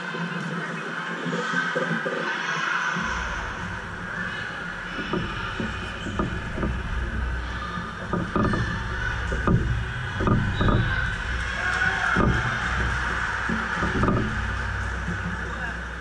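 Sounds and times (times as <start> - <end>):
crowd murmur: 0.0 - 16.0
thumps and knocks: 3.0 - 16.0.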